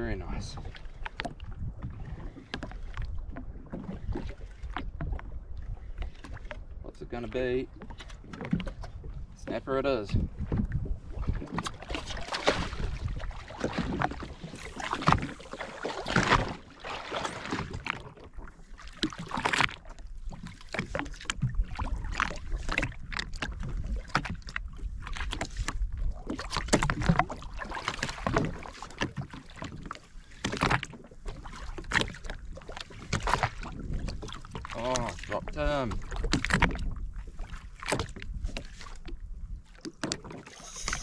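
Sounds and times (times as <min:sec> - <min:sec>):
water splashing against hull: 0:00.0 - 0:41.0.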